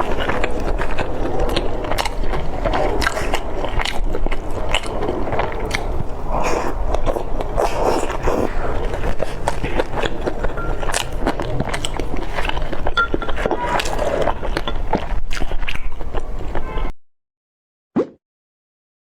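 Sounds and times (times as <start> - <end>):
chewing dumpling: 0.0 - 16.9.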